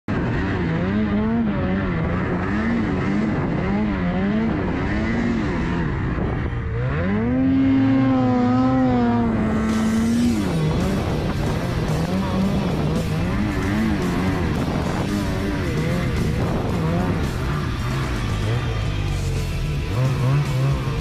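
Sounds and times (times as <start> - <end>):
snowmobile engine revving: 0.1 - 21.0.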